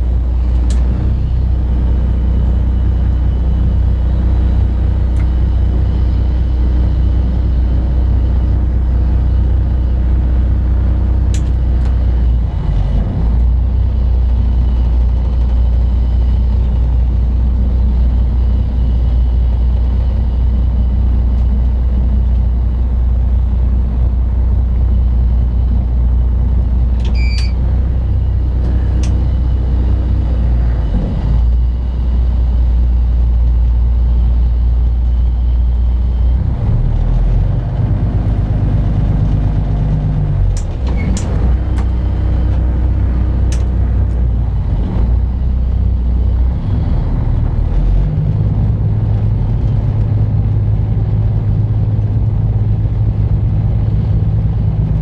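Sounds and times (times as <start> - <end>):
boat diesel engine rumbling: 0.0 - 55.0.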